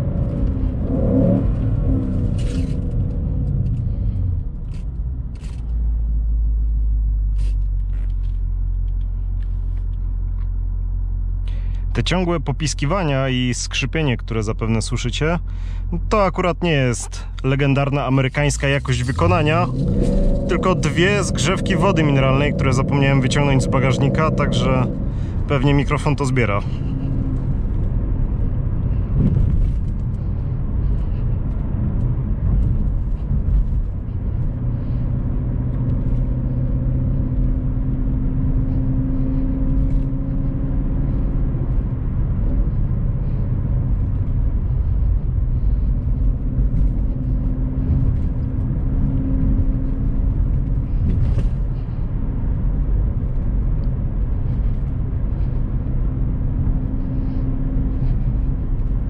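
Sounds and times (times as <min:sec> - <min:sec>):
car engine cruising: 0:00.0 - 0:59.0
road rumble: 0:00.0 - 0:59.0.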